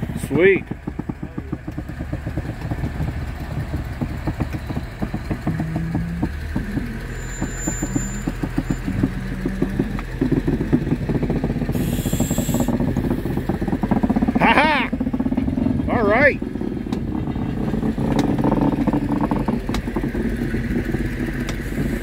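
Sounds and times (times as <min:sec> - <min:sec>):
engine with rhythmic clatter: 0:00.0 - 0:22.0.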